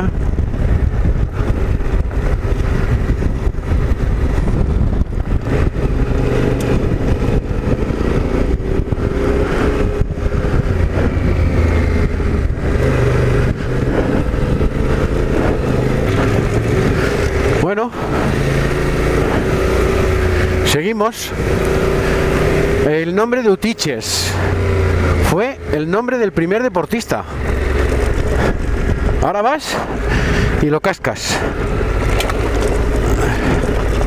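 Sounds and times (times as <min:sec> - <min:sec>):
motorcycle engine running: 0:00.0 - 0:30.6, 0:31.4 - 0:34.0.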